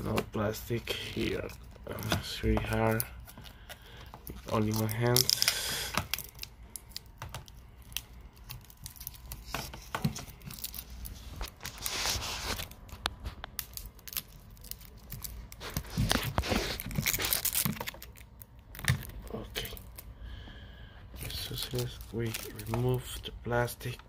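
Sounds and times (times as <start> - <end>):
plastic rustling: 0.0 - 20.1, 21.1 - 24.0
plastic wrapping crinkling and tearing: 0.0 - 20.1, 21.2 - 24.0.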